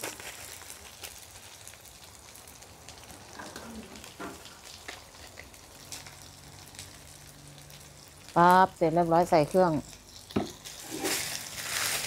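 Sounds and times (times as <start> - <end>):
aromatics sizzling in oil: 0.0 - 12.0.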